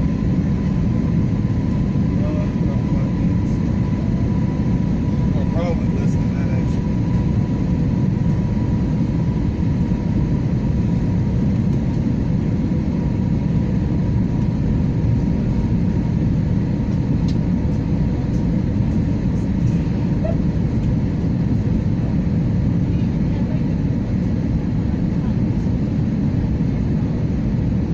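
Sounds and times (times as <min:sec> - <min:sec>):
airplane cabin engine roar: 0:00.0 - 0:27.9.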